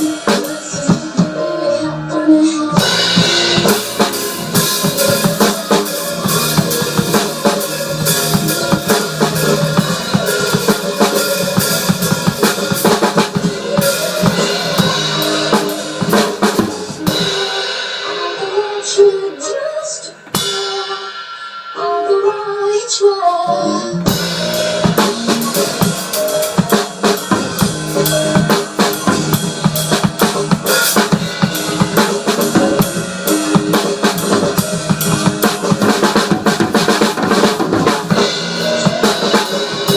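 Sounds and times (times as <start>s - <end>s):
pitched music: 0.0s - 39.9s
drum kit fast hits: 2.8s - 19.0s, 24.0s - 39.9s.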